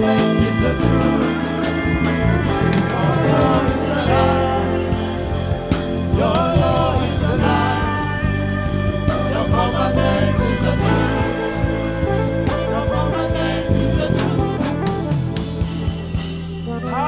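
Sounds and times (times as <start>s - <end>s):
church band music: 0.0s - 17.0s.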